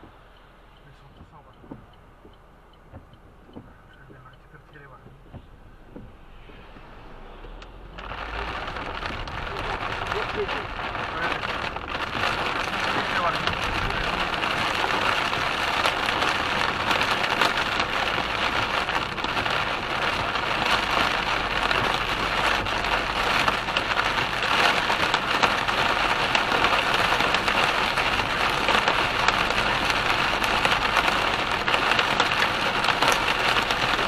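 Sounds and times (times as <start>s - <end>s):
heavy rain on a car: 0.0s - 6.7s, 7.3s - 34.0s.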